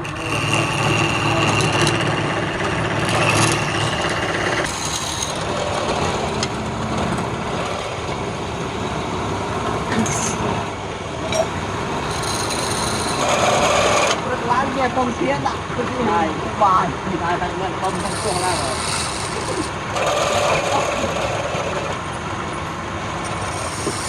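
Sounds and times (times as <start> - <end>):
wood lathe running: 0.0 - 15.9, 17.8 - 24.0.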